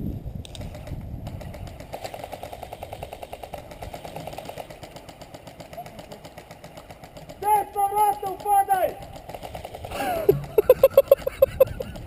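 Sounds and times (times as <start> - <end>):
airsoft gun firing full auto: 0.6 - 10.7.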